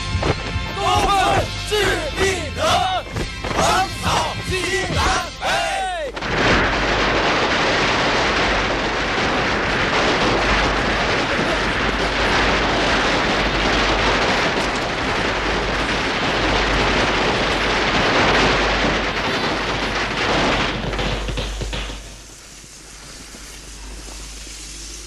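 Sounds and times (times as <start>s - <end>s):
firecrackers crackling: 0.0s - 25.0s.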